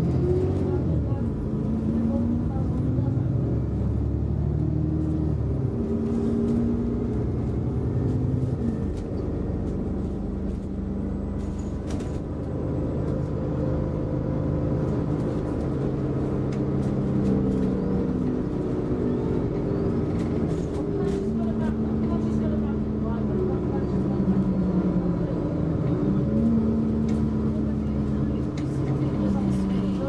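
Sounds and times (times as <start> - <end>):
bus engine running: 0.0 - 30.0.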